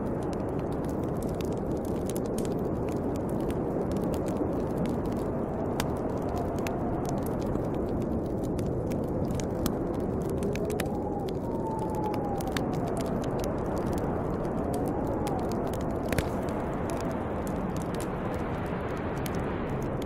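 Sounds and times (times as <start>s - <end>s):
rushing wind: 0.0s - 20.0s
wood fire crackling: 0.0s - 20.0s.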